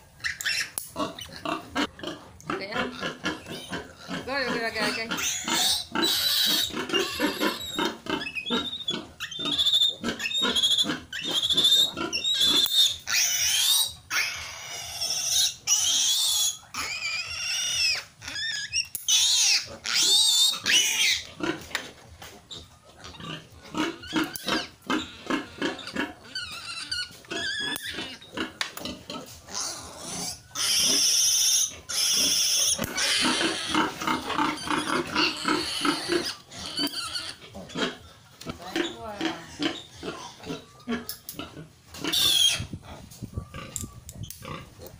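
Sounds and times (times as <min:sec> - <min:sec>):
piglet squealing: 0:00.2 - 0:01.9, 0:02.6 - 0:21.6, 0:22.5 - 0:28.5, 0:29.1 - 0:44.7
piglet grunts and squeaks: 0:00.2 - 0:44.9.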